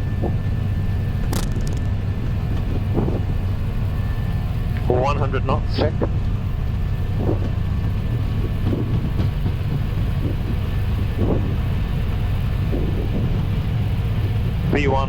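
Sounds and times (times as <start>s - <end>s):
wheels rolling on runway: 0.0s - 5.0s, 5.6s - 14.7s
jet engines running: 0.0s - 15.0s.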